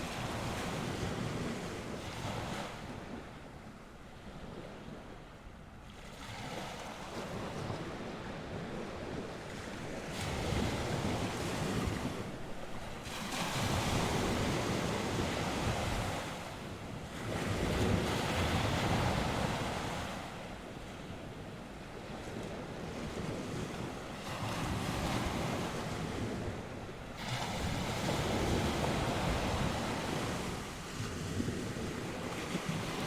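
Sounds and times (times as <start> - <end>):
sea waves breaking on shore: 0.0 - 33.0
wind on microphone: 6.3 - 33.0.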